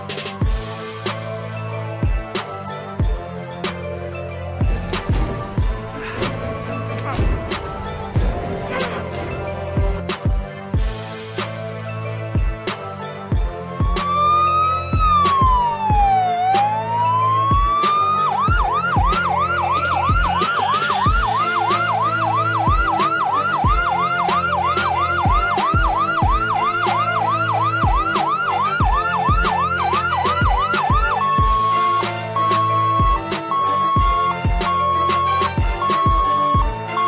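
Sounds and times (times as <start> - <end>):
music with steady beat: 0.0 - 37.0
ambulance siren: 3.7 - 11.5, 13.6 - 37.0.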